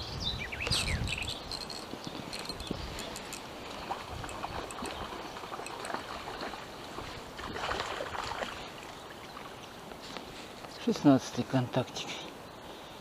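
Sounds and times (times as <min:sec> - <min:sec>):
river water flowing: 0:00.5 - 0:13.0.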